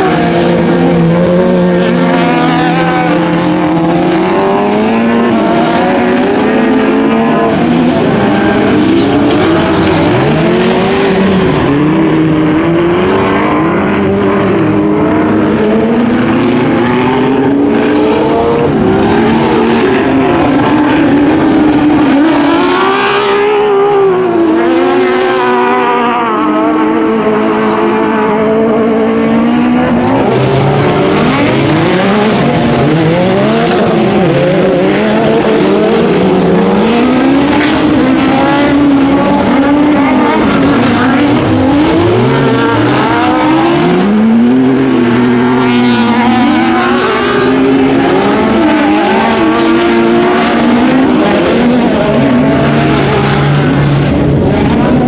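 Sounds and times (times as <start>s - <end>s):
racing buggy engines revving: 0.0s - 55.0s.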